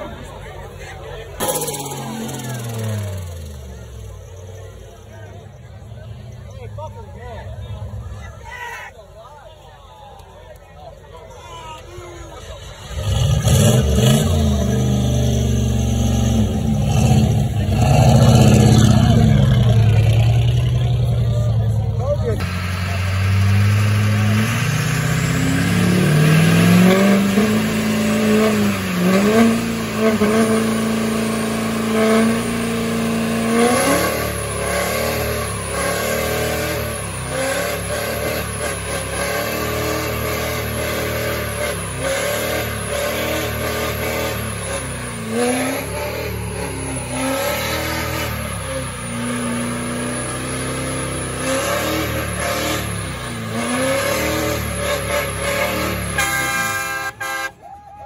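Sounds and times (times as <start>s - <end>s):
pickup engine revving: 0.0s - 8.3s, 12.3s - 57.5s.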